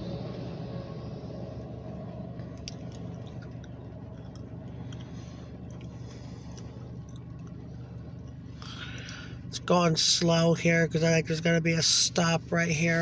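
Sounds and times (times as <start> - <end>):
diesel locomotive rumbling: 0.0 - 13.0.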